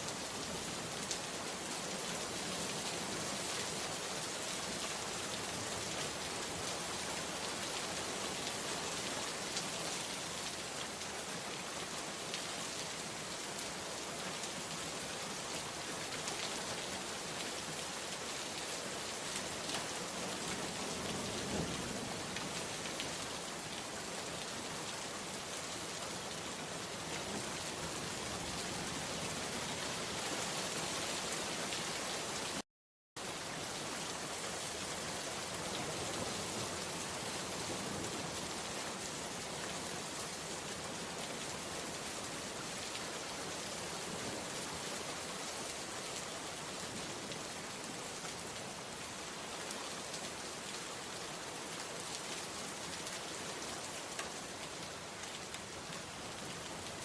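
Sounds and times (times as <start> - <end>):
steady rain pattering: 0.0 - 32.6, 33.2 - 57.0.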